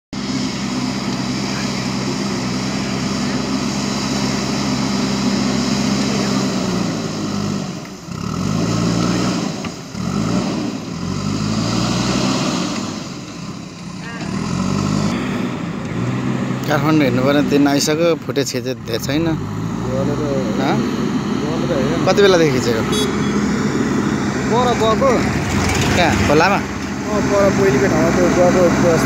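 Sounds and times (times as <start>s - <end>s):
diesel engine running: 0.1s - 29.0s.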